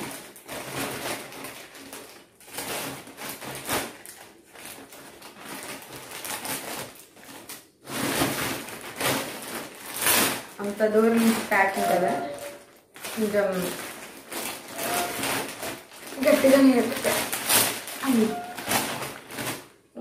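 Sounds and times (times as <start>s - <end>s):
tape and plastic wrap ripping: 0.0s - 19.7s.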